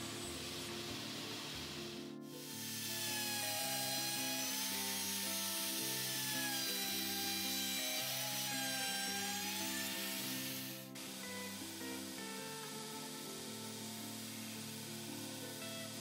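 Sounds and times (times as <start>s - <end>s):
background music: 0.0s - 16.0s
electric router whining: 0.0s - 16.0s.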